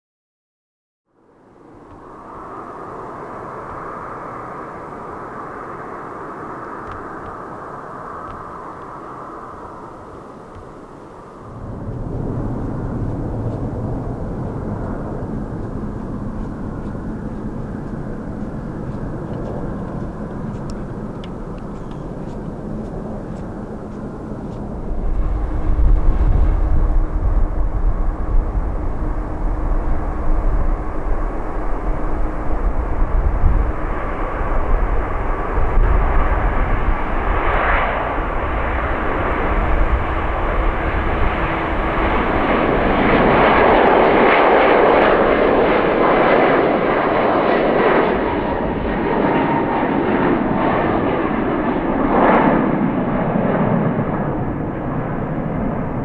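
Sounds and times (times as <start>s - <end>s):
jet engine high whine: 1.2s - 56.0s
jet engines rumbling: 1.4s - 56.0s.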